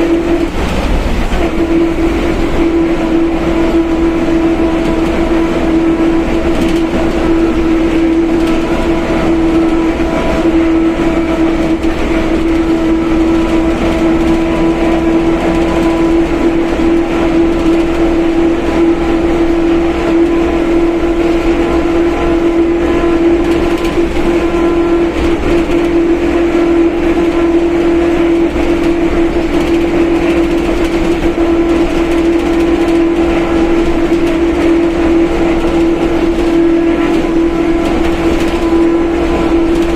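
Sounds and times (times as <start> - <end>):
bus differential howling: 0.0 - 39.9
bus running and road noise: 0.0 - 39.9.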